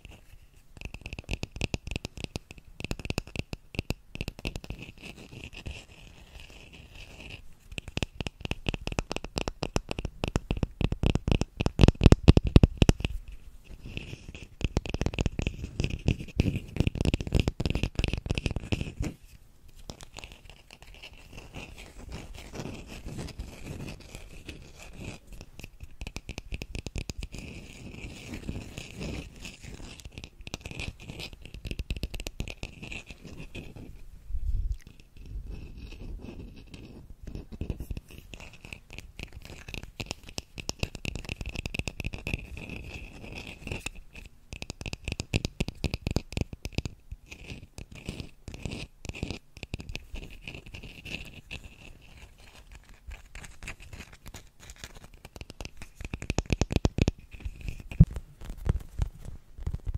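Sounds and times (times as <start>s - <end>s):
fingernails tapping and scratching bowl: 0.8s - 34.0s, 34.8s - 59.0s.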